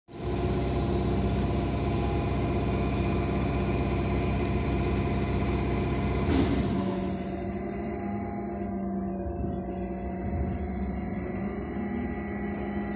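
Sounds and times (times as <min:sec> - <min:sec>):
trolleybus machine hum: 0:00.1 - 0:12.9.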